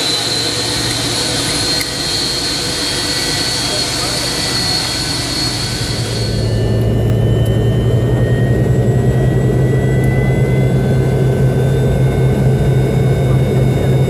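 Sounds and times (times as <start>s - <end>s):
jet engines droning in cabin: 0.0s - 14.0s.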